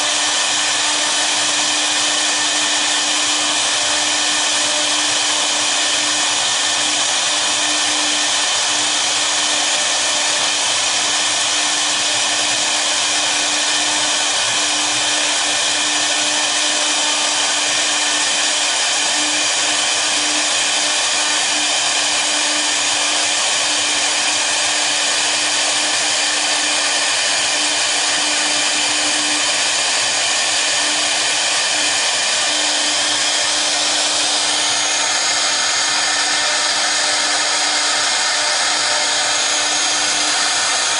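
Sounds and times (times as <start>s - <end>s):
router spindles hissing: 0.0s - 40.9s.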